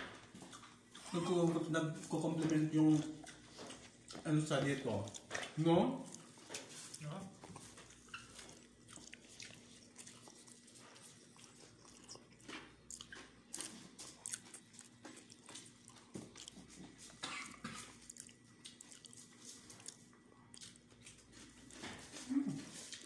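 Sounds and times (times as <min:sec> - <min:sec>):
people eating with clicks and smacks: 0:00.0 - 0:23.0.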